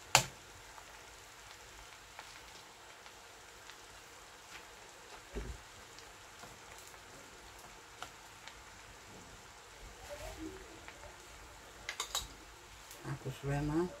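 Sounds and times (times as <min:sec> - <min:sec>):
rice sizzling in a pan: 0:00.0 - 0:14.0.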